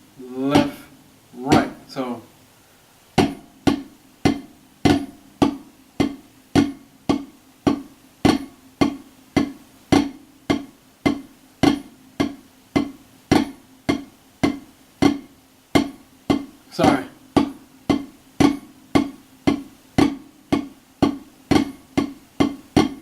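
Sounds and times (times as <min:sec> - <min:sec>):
drumsticks striking a drum: 0:00.3 - 0:02.2, 0:03.2 - 0:23.0.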